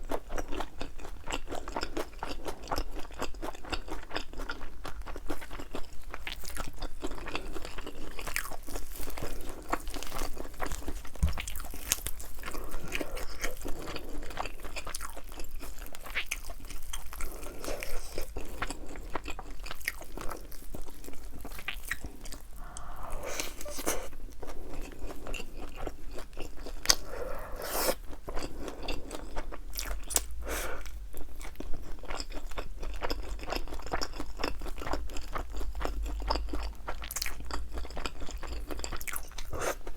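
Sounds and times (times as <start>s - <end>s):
crunching fried chicken: 0.0s - 39.9s.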